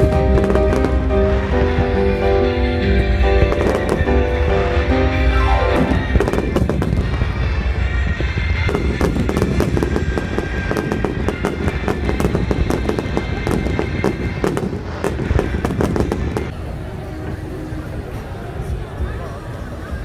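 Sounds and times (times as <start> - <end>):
fireworks bangs and crackles: 0.0 - 17.4
music playing: 0.0 - 19.0.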